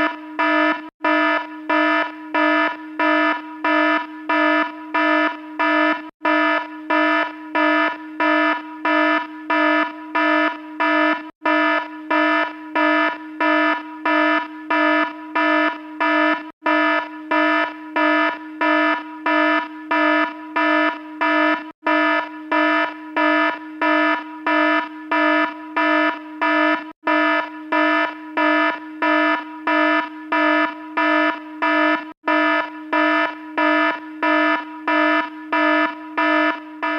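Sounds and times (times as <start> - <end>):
electronic alarm buzzy beeping: 0.0 - 36.9.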